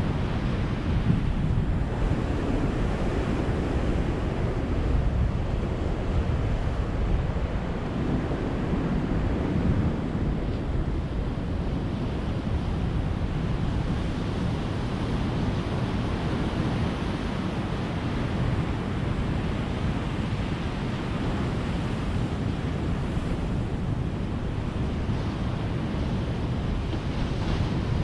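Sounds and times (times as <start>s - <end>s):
ocean surf rushing: 0.0s - 28.0s.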